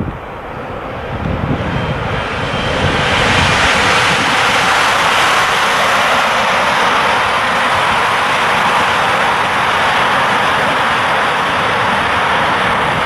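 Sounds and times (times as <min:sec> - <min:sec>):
train passing rushing noise: 0:00.0 - 0:13.0.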